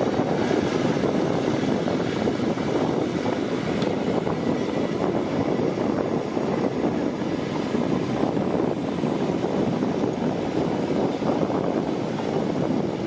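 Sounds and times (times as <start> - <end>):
diesel earthmoving machinery running: 0.0 - 13.0.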